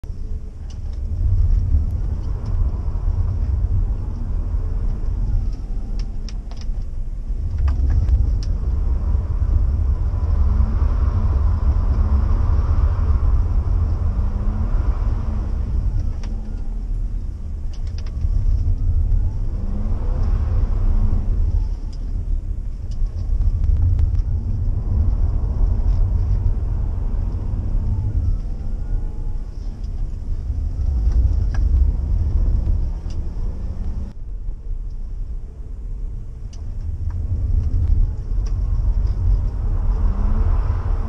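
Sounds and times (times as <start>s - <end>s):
car engine revving: 0.0s - 34.2s, 36.3s - 41.0s
road rumble inside car: 0.0s - 41.0s.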